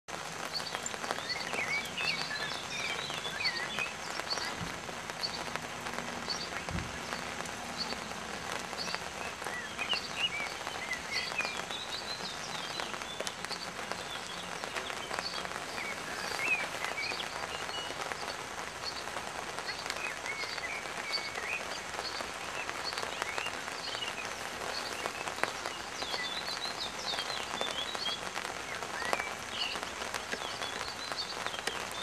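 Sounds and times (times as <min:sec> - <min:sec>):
rain falling: 0:00.1 - 0:32.0
birds chirping and singing: 0:00.4 - 0:05.6, 0:06.2 - 0:32.0.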